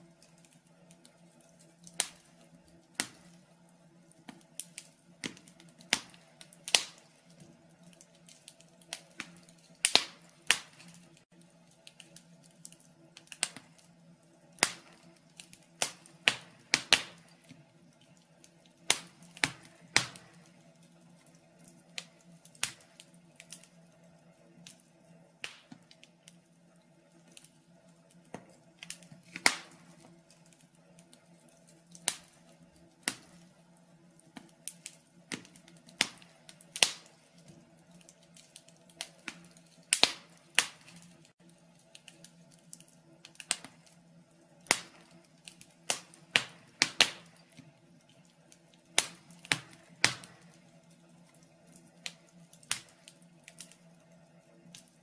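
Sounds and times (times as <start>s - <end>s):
faint steady hum: 0.0s - 55.0s
wood fire crackling: 0.0s - 55.0s.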